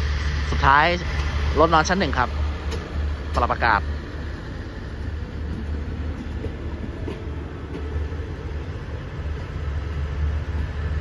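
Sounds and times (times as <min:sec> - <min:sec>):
train coaches rumbling past: 0:00.0 - 0:11.0.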